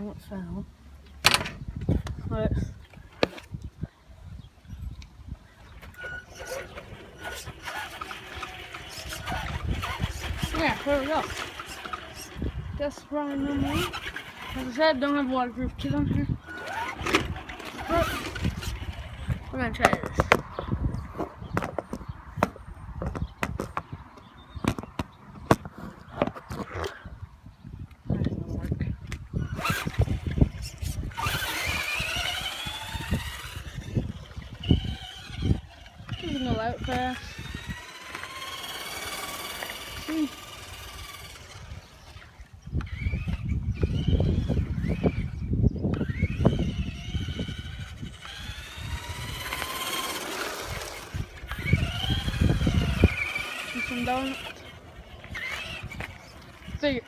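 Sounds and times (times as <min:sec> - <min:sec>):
rc car motor whining: 0:01.0 - 0:03.8, 0:04.4 - 0:22.2, 0:29.2 - 0:57.0.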